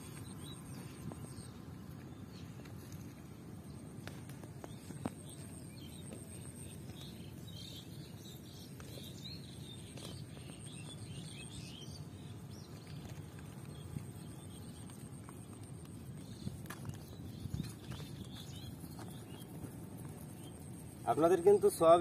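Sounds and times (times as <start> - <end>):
low steady rumble: 0.0 - 22.0
small birds chirping: 0.0 - 22.0.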